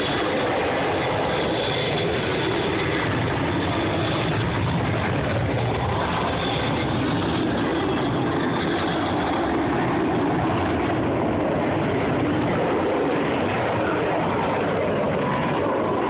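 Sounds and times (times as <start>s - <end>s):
jet engines in flight: 0.0s - 16.0s.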